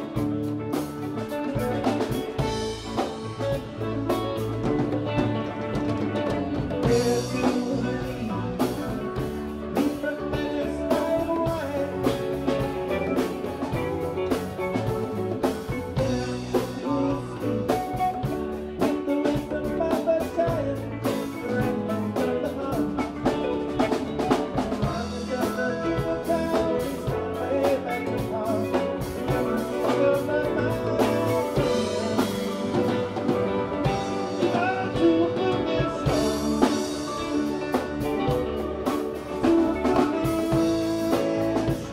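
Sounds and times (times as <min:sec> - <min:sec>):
bass guitar: 0:00.0 - 0:41.9
drum kit: 0:00.0 - 0:41.9
electric guitars: 0:00.0 - 0:41.9.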